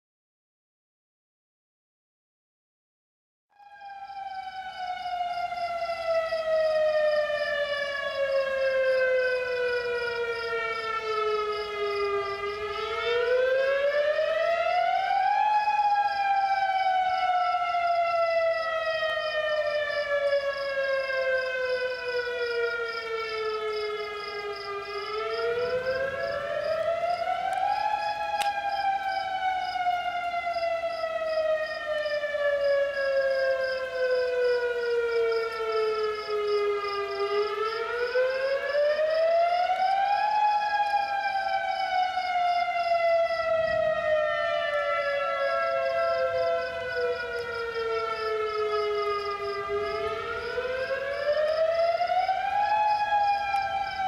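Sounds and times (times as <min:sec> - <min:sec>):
warning siren rising and falling: 0:03.5 - 0:54.0.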